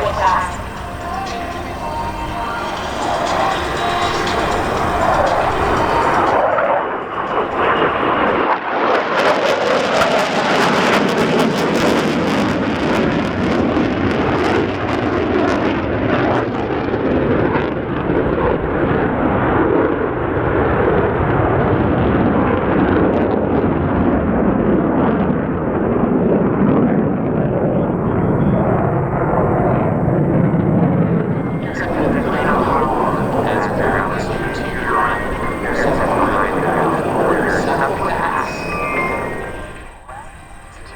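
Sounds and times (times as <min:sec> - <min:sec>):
jet engines roaring: 0:00.0 - 0:22.1, 0:25.6 - 0:40.9.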